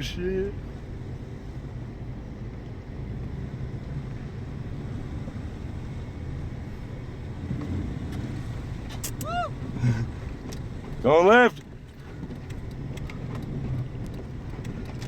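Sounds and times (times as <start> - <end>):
pickup truck driving through snow: 0.0 - 15.0.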